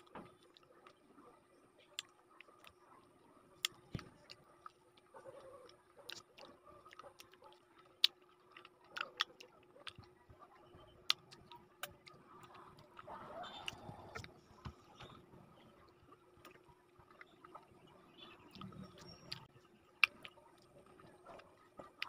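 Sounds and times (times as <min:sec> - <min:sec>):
person chewing fruit: 0:00.0 - 0:22.0.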